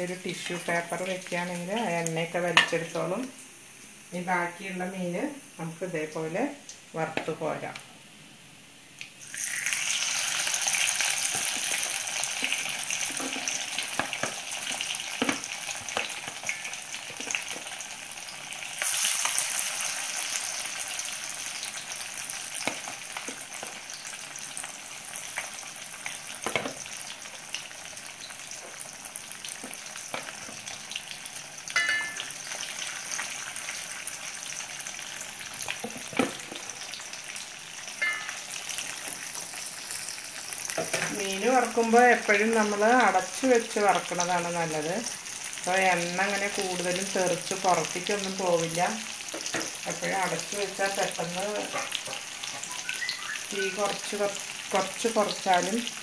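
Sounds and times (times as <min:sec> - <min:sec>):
fish frying in hot oil: 0:09.2 - 0:56.0.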